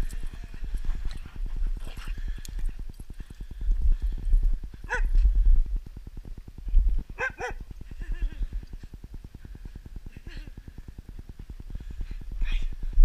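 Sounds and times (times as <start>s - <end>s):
low microphone rumble: 0.0s - 13.0s.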